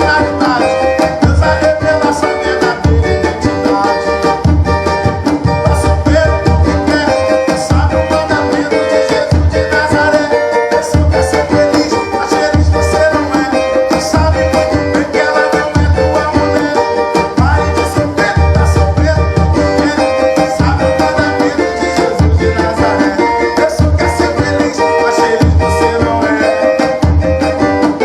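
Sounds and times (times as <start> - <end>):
strummed small guitar chords: 0.0 - 28.0.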